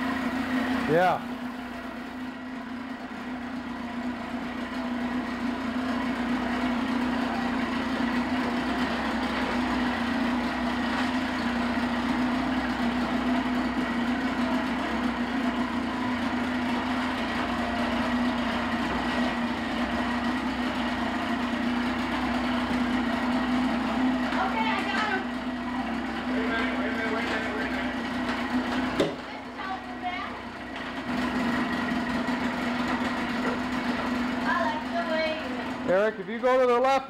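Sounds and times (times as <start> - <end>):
motorboat engine running: 0.0 - 37.0.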